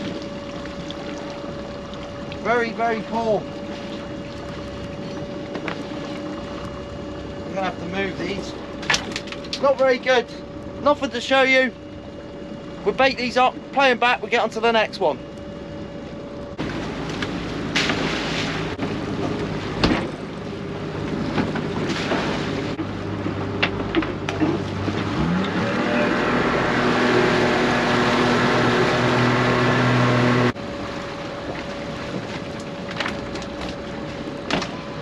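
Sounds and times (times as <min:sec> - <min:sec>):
outboard motor running: 0:00.0 - 0:35.0
water rushing along hull: 0:00.0 - 0:35.0.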